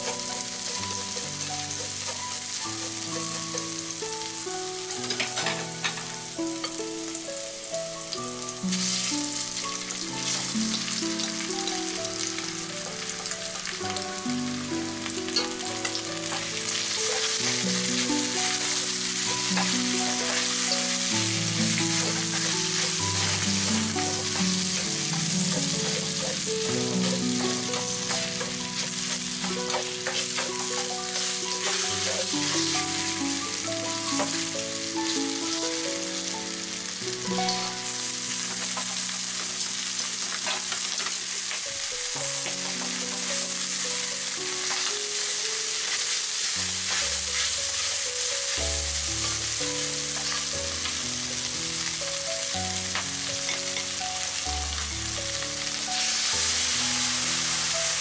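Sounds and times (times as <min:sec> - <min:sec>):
food sizzling in hot oil: 0:00.0 - 0:58.0
stir-frying in a wok: 0:00.0 - 0:58.0.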